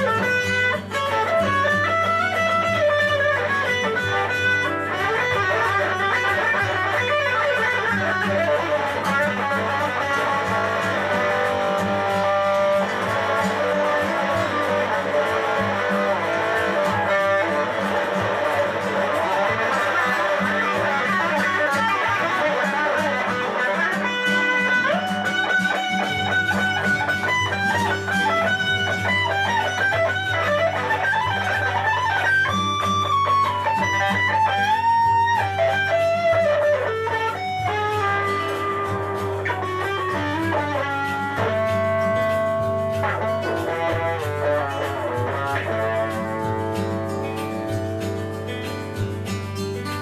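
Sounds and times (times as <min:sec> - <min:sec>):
electric guitar solo: 0:00.0 - 0:50.0.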